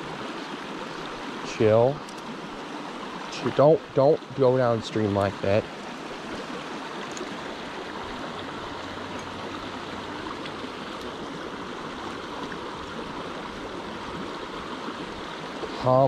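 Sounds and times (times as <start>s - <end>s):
creek water rushing over rocks: 0.0s - 16.0s.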